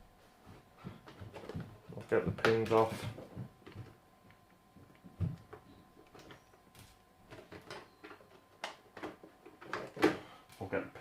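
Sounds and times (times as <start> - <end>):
faint clicks and handling noise: 1.0 - 11.0.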